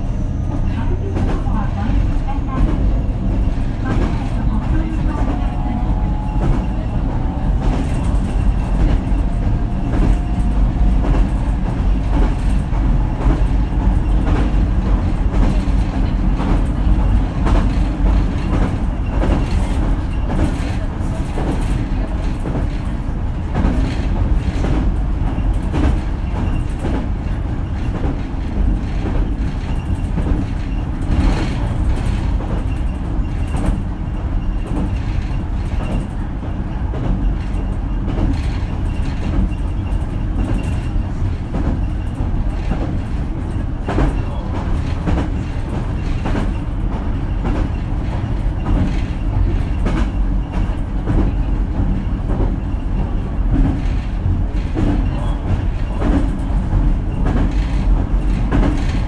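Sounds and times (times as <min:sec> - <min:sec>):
train running rumble: 0:00.0 - 0:59.0
wheels clicking on rails: 0:00.6 - 0:59.0.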